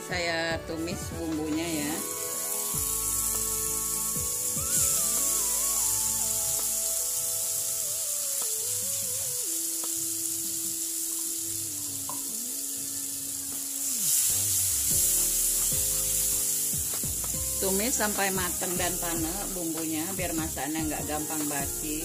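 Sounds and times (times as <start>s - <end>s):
soft background music: 0.0s - 22.0s
spice paste sizzling in oil: 0.7s - 22.0s.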